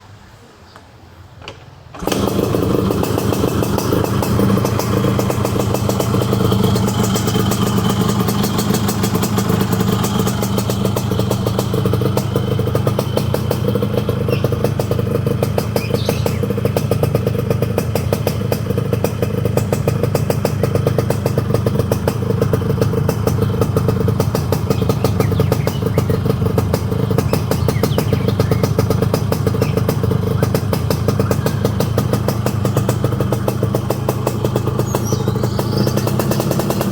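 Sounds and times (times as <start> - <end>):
two-stroke engine starting and idling: 1.5 - 36.9.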